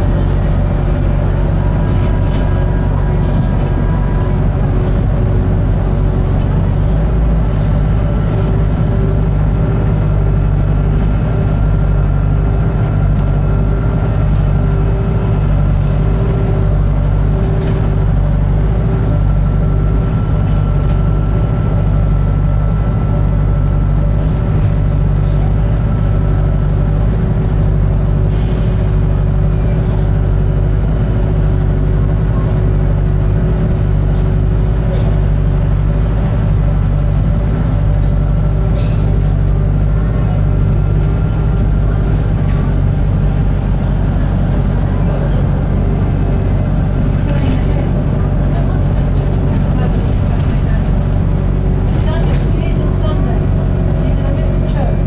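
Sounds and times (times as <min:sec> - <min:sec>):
bus drivetrain hum and rumble: 0:00.0 - 0:55.0.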